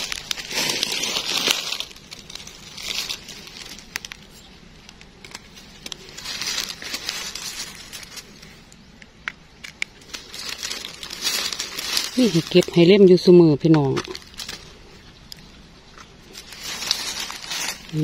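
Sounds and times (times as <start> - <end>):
dry leaves rustling: 0.0 - 8.8, 9.8 - 18.0.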